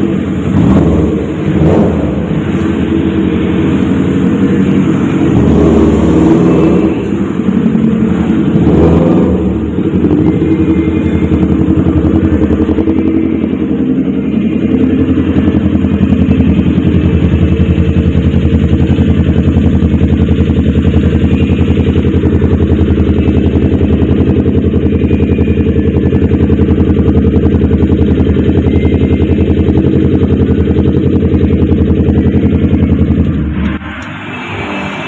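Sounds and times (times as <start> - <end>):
motorcycle engine running loudly: 0.0 - 35.0.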